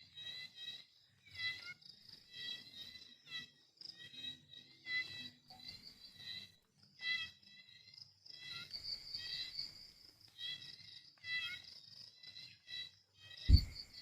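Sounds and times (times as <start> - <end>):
animals chirping trills: 0.0 - 9.8, 10.4 - 14.0.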